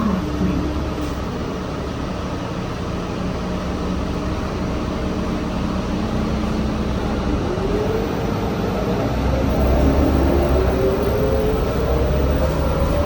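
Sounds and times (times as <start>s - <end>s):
bus engine hum with rising whine: 0.0s - 13.0s.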